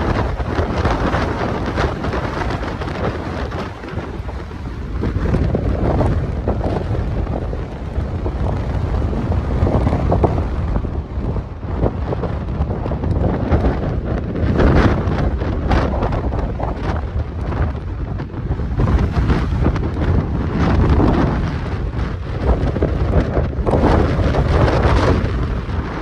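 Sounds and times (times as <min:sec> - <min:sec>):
gusty wind on microphone: 0:00.0 - 0:26.0.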